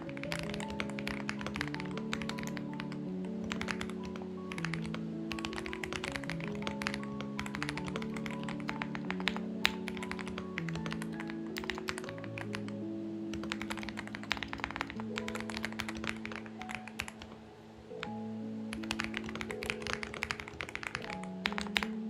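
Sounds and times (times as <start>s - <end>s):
mechanical keyboard typing: 0.0s - 17.4s, 18.7s - 21.9s
soft background music: 0.0s - 22.0s.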